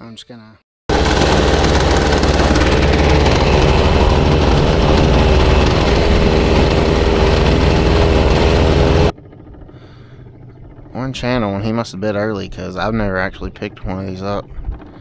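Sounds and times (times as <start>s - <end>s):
outboard motor droning: 0.9s - 15.0s.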